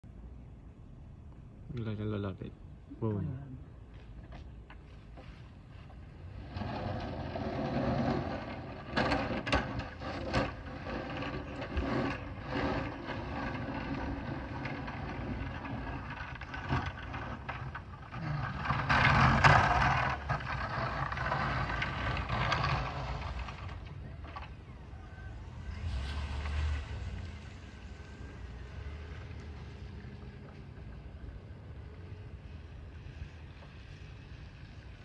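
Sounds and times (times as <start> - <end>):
snow plow pushing snow: 4.3 - 35.0.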